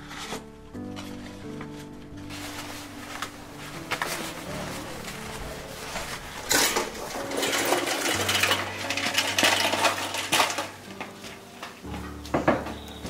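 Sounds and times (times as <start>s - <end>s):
bicycle rattling over gravel: 0.0s - 13.0s
bicycle falling: 0.8s - 13.0s.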